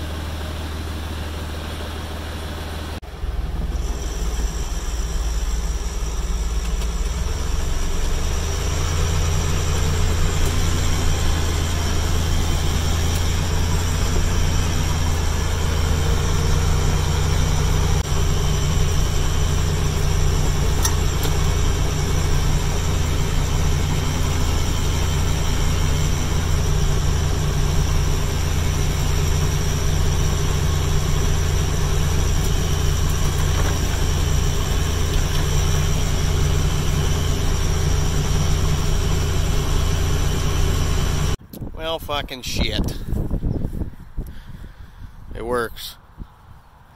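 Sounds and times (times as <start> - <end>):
tractor diesel engine running: 0.0 - 46.9
high whine of hedge cutter: 3.2 - 41.4.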